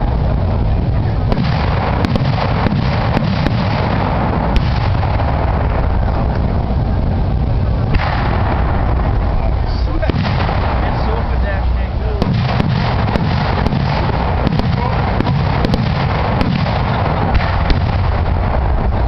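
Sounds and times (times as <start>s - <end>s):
firework bangs and pops: 0.0s - 19.0s
low rumble: 0.0s - 19.0s.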